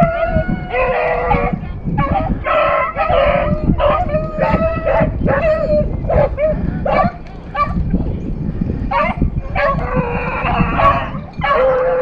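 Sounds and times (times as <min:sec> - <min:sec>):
hounds barking: 0:00.0 - 0:07.9, 0:08.9 - 0:12.0
low rumble: 0:00.0 - 0:11.4.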